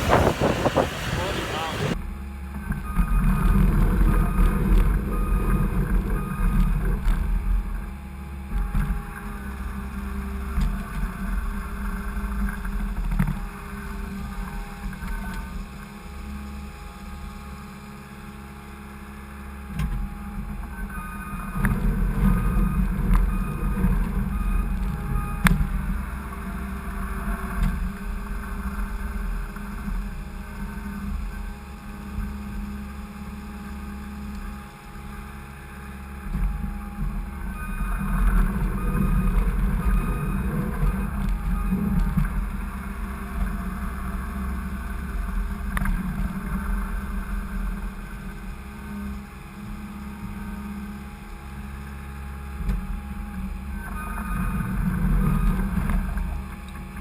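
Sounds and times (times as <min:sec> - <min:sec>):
skid steer engine working: 0:00.0 - 0:57.0.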